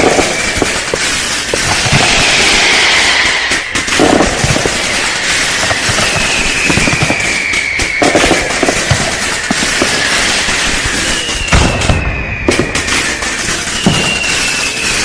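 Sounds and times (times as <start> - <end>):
falling whistling tone: 0.0 - 0.9, 1.7 - 15.0
fireworks bangs and crackling: 0.0 - 15.0.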